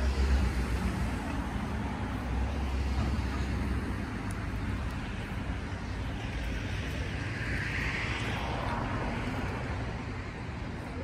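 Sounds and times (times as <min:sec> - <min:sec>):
low traffic rumble: 0:00.0 - 0:11.0
passing vehicle hiss: 0:00.0 - 0:11.0.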